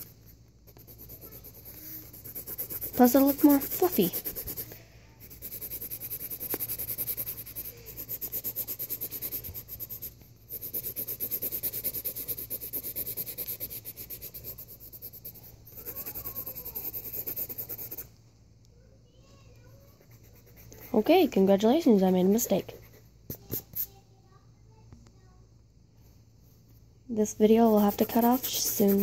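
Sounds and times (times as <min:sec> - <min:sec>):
pencil scratching on paper: 0:00.0 - 0:18.1, 0:20.0 - 0:23.9, 0:27.4 - 0:29.0.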